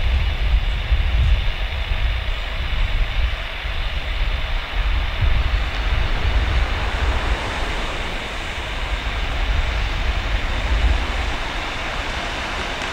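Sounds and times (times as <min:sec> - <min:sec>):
jet engines rumbling: 0:00.0 - 0:12.9.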